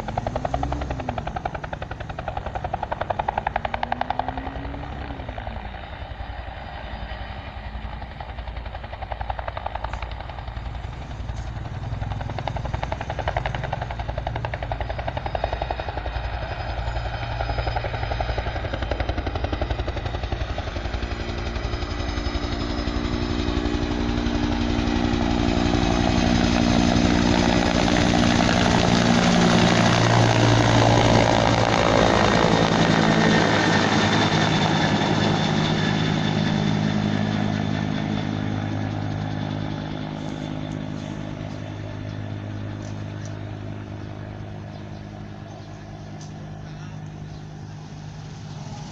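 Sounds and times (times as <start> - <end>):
helicopter engine tone: 0.0 - 48.9
helicopter rotor chopping: 0.0 - 48.9.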